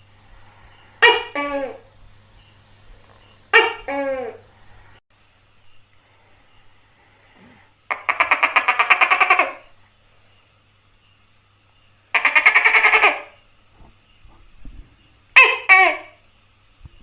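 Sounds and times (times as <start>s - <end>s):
gecko calling: 0.0s - 5.0s, 6.0s - 17.0s.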